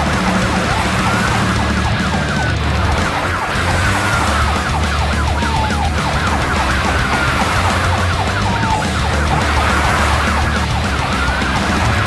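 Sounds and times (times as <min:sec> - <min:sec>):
low engine drone: 0:00.0 - 0:12.0
police siren fast yelp: 0:00.0 - 0:12.0
police siren wail: 0:00.0 - 0:12.0.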